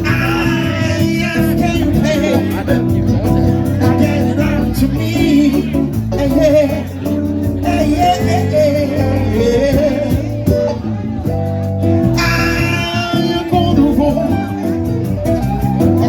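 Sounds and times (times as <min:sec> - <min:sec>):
bass: 0:00.0 - 0:16.0
guitar: 0:00.0 - 0:16.0
person singing: 0:00.0 - 0:16.0.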